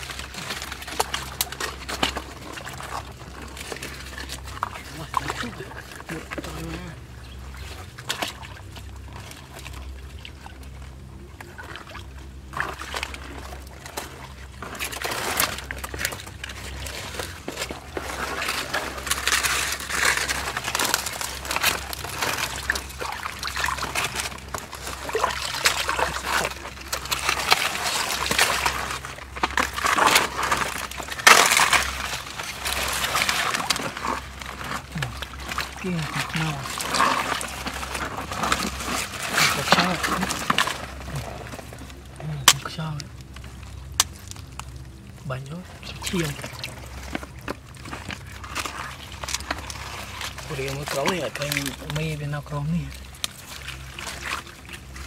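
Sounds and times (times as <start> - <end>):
water sloshing and trickling: 0.0 - 55.0.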